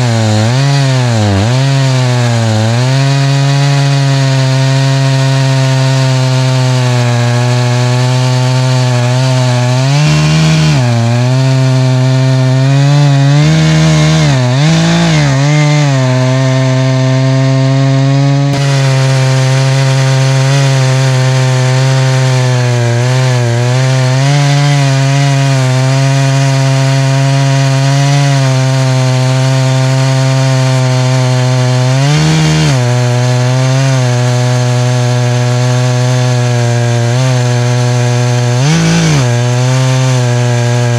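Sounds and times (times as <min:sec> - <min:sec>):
chainsaw cutting log at full throttle: 0:00.0 - 0:40.9.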